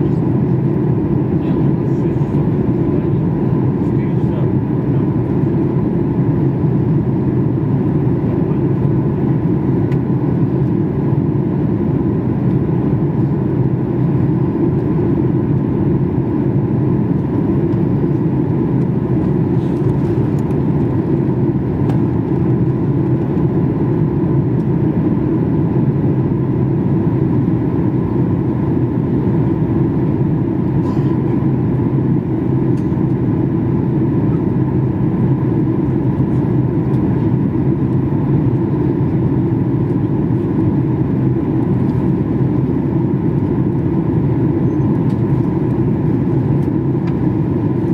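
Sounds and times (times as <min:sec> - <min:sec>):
airliner cabin rumble: 0:00.0 - 0:47.9.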